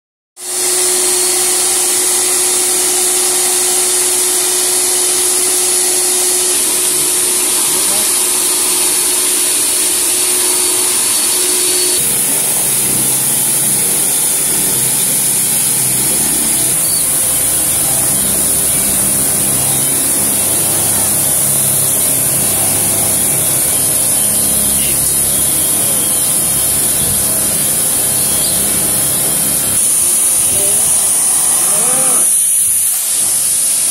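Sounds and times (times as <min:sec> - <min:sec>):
pressure washer pump pulsing: 0:00.4 - 0:33.9
vacuum cleaner motor whine: 0:00.4 - 0:33.9
water jet spraying car: 0:00.6 - 0:33.9.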